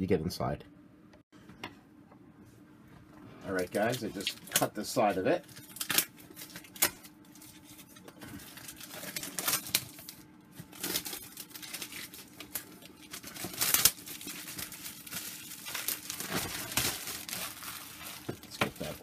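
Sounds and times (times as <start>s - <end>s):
plastic shrink-wrap crinkling and tearing: 3.5s - 19.0s.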